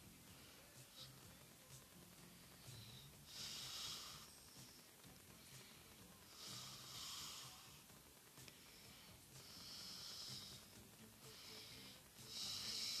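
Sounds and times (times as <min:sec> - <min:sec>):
faint hissing breaths: 0:00.0 - 0:13.0.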